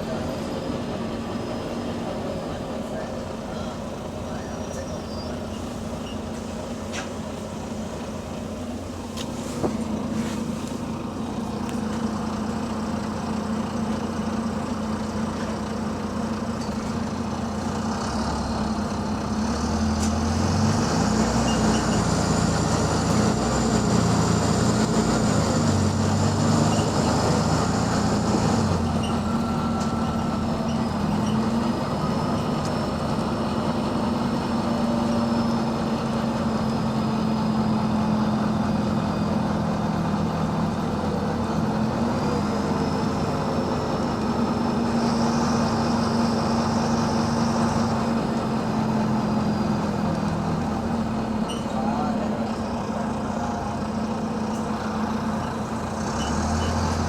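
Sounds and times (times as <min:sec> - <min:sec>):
bus diesel engine accelerating: 0:00.0 - 0:57.0.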